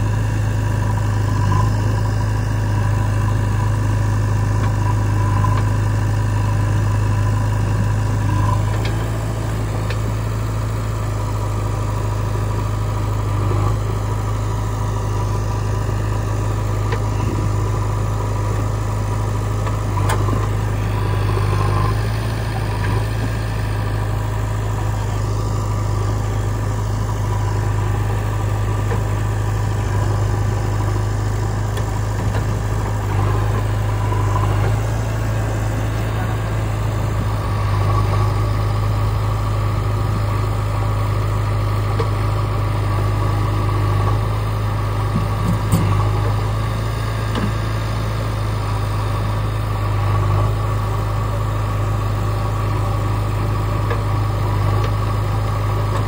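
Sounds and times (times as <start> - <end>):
backhoe digging soil: 0.0 - 56.0
diesel engines running: 0.0 - 56.0.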